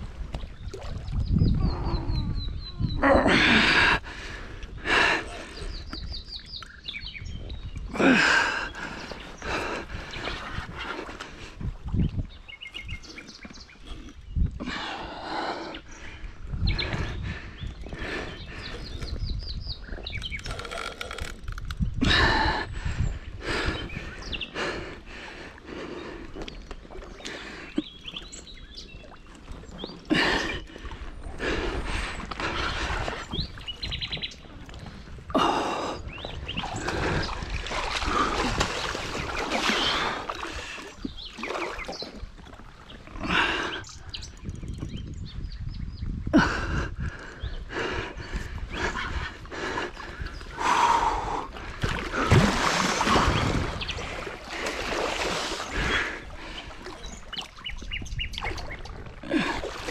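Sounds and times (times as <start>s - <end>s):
water splashing and churning: 0.0s - 45.0s, 46.4s - 59.9s.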